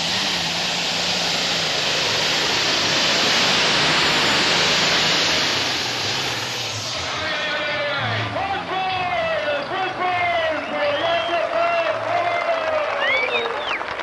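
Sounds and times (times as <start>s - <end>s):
tractor engine roaring: 0.0s - 14.0s.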